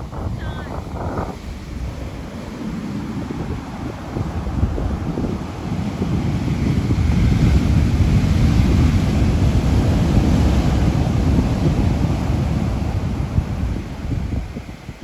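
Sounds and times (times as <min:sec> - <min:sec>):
ocean surf breaking on beach: 0:00.0 - 0:15.0
wind rumbling on microphone: 0:00.0 - 0:15.0.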